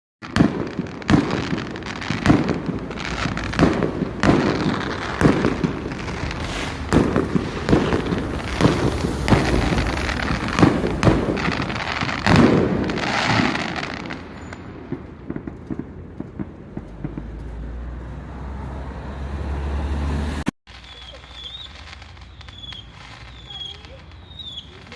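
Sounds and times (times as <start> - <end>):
fireworks bangs and crackling: 0.2 - 24.9.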